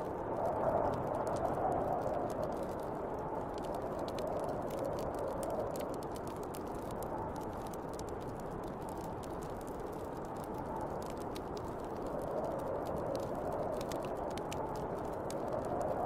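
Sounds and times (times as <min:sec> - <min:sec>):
snowstorm wind blowing: 0:00.0 - 0:16.0
wood fire crackling: 0:00.0 - 0:16.0.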